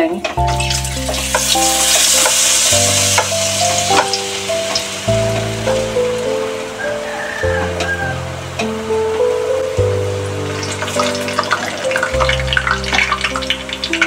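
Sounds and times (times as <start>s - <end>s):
background music with bass line: 0.0s - 14.0s
dough sizzling in hot oil: 0.5s - 8.1s, 10.1s - 14.0s.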